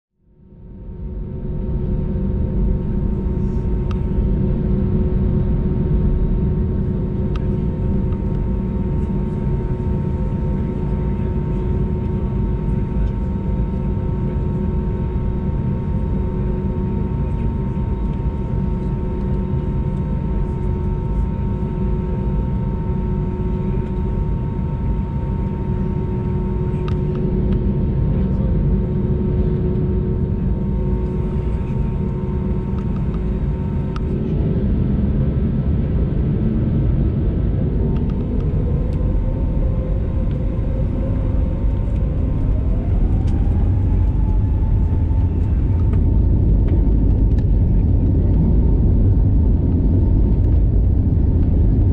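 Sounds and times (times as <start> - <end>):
aircraft cabin rumble: 0.7 - 51.9
jet engine whining: 1.2 - 51.9.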